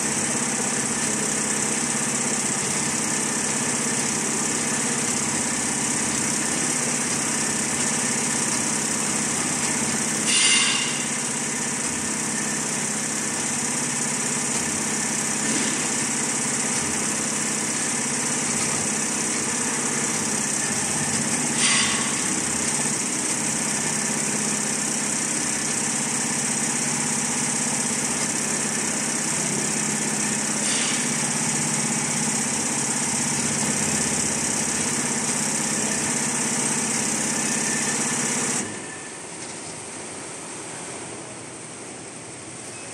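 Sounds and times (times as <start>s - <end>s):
short loud machine bursts: 0.0s - 39.2s
embroidery machine whirring: 0.0s - 39.3s.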